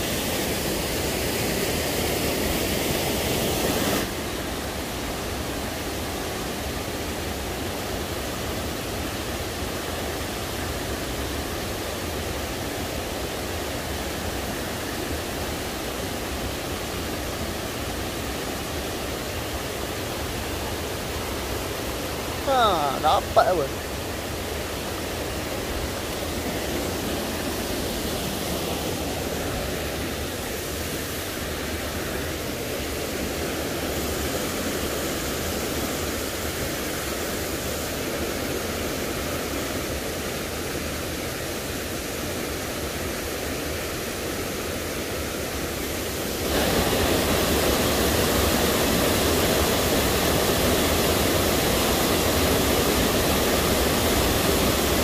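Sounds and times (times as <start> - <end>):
stream and waterfall rushing: 0.0 - 55.0.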